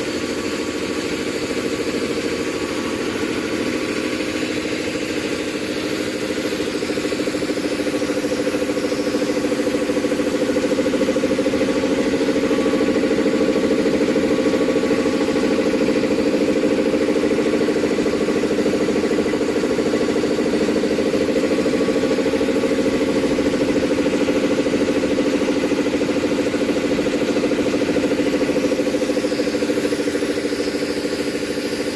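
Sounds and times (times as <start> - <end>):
air compressor running: 0.0 - 31.9.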